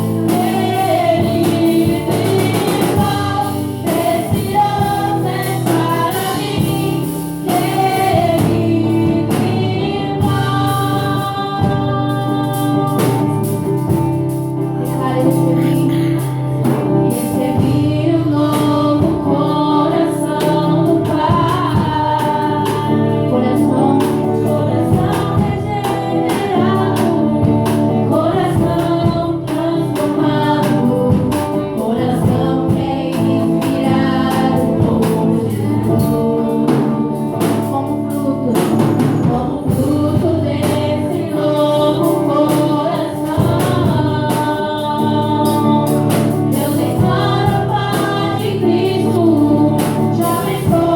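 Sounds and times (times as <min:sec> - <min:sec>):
group singing gospel: 0:00.0 - 0:50.9.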